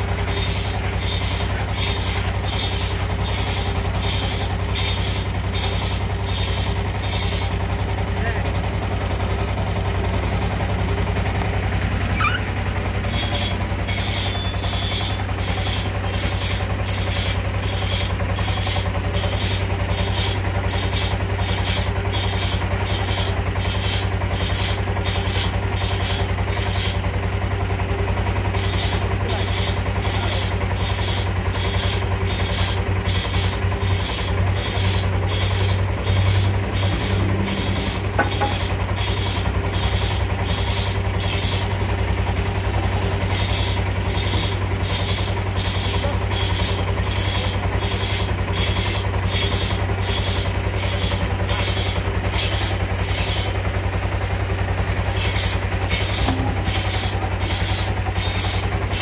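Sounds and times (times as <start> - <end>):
hand saw rasping through wood: 0.0 - 7.5, 13.0 - 27.0, 28.5 - 41.8, 43.3 - 53.6, 55.1 - 59.0
engine hum: 0.0 - 59.0.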